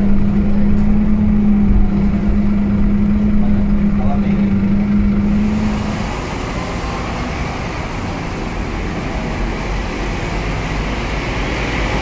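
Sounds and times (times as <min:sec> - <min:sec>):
bus diesel engine rumbling: 0:00.0 - 0:12.0
road noise: 0:00.0 - 0:12.0.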